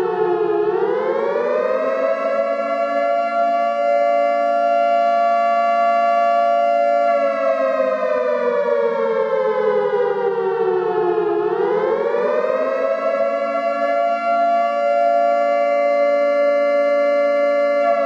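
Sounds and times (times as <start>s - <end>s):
loud siren: 0.0s - 18.0s.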